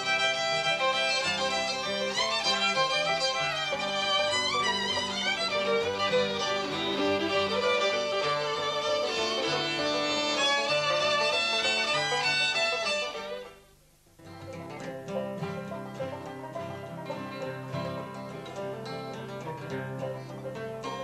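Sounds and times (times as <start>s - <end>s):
fiddle melody: 0.0s - 21.0s.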